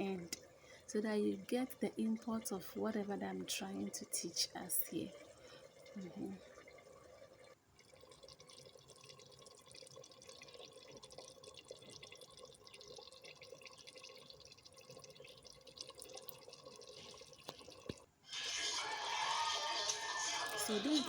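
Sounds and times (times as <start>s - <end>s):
liquid dripping and trickling: 0.0s - 18.1s.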